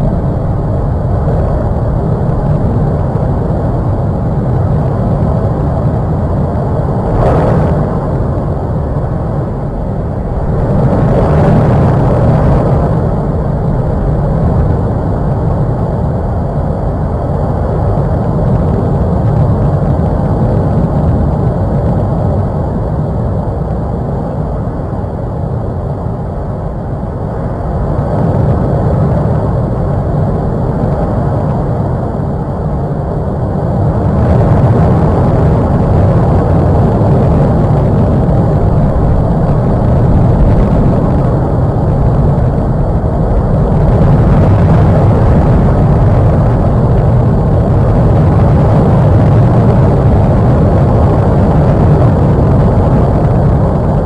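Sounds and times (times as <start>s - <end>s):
loud low rumble: 0.0s - 24.1s, 27.8s - 54.0s.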